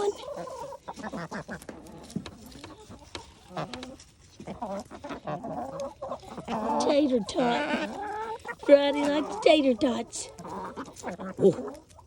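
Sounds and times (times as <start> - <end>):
chickens clucking and squawking: 0.0 - 12.0.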